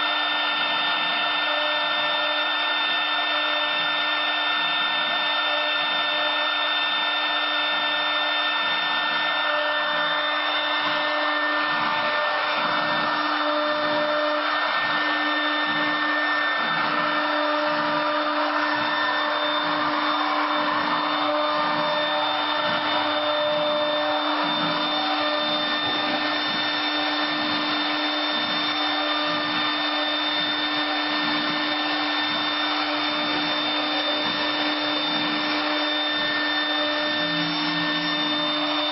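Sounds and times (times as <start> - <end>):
router bit cutting wood: 0.0 - 38.9
router spindle whine: 0.0 - 38.9.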